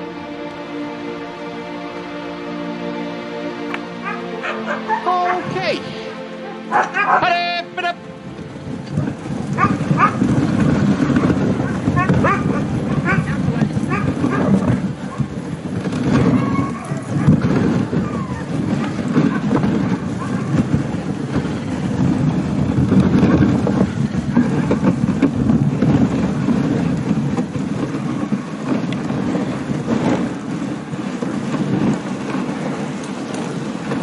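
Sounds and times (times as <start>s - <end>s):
sled scraping over snow: 0.0s - 34.0s.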